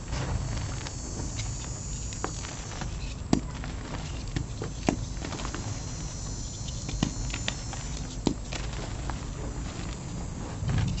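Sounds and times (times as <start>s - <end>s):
chalk chunks crunching and cracking: 0.0s - 11.0s
gritty rustle of chalk grains: 0.0s - 11.0s.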